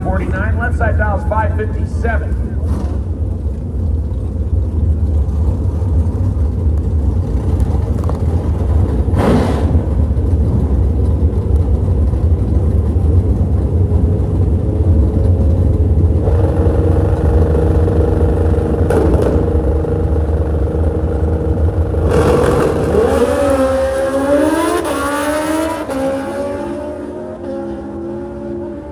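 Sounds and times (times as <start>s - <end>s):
race car engines accelerating: 0.0s - 28.9s.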